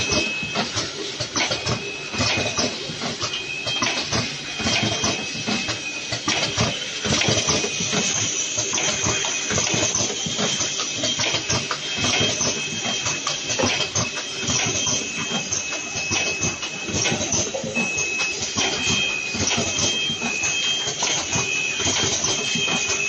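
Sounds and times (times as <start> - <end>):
packaging machine clattering: 0.0 - 23.0.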